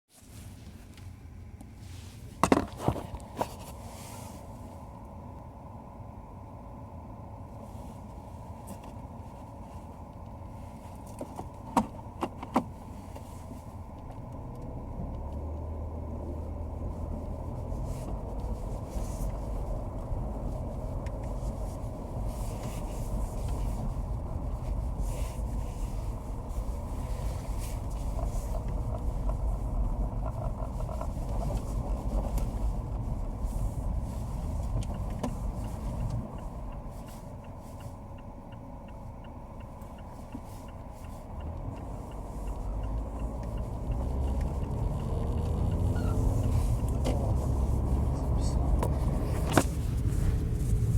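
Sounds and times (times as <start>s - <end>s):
car running and road rumble: 0.1s - 50.9s.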